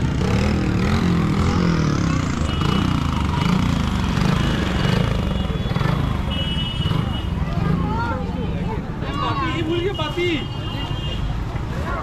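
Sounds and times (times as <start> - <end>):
motorbike engines: 0.0 - 12.0
crowd chatter: 1.3 - 12.0.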